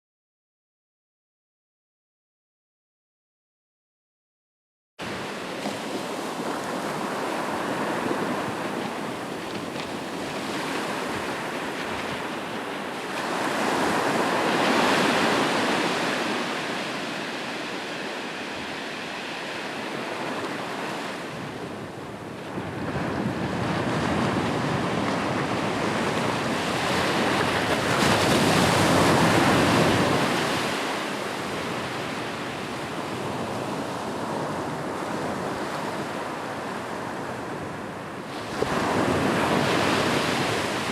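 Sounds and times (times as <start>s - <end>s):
ocean waves breaking on shore: 5.0s - 40.9s.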